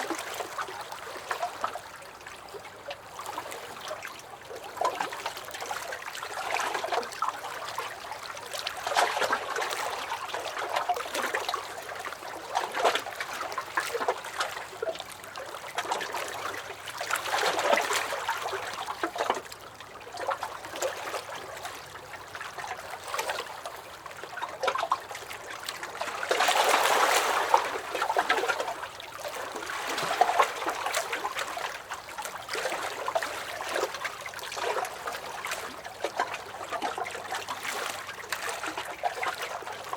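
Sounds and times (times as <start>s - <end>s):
small waves lapping against a dock: 0.0s - 39.9s.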